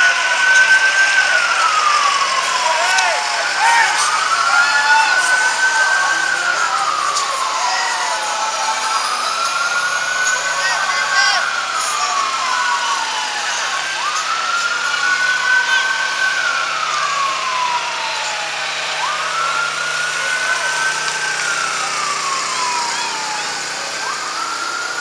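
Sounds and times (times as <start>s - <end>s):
emergency siren wailing: 0.0s - 25.0s.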